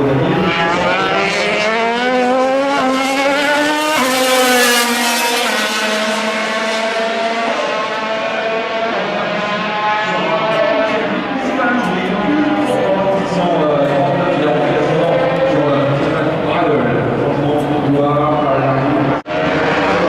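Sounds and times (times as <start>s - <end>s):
racing motorcycle engine revving: 0.0s - 20.0s.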